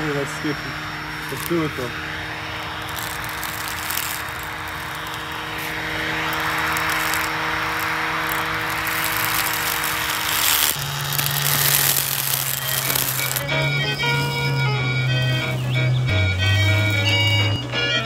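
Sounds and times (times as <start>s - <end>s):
blade hissing through grass: 0.0s - 17.6s
motor whirring hum: 0.0s - 18.0s.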